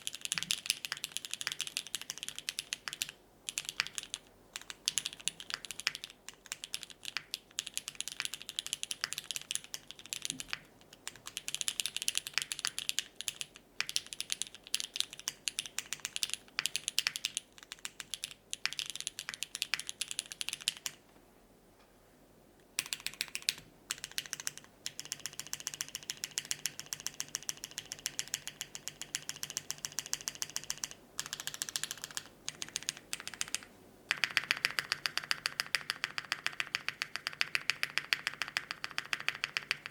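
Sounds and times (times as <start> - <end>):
typing on mechanical keyboard: 0.0 - 21.0, 22.8 - 39.9.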